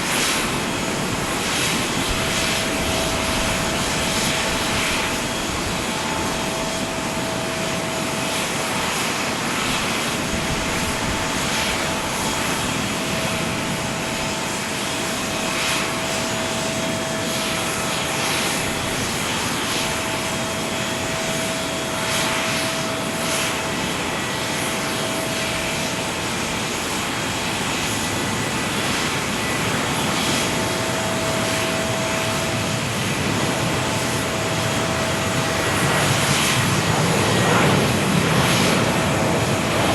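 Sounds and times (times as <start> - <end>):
jet engine noise: 0.0 - 39.9
thin steady whine: 0.0 - 39.9.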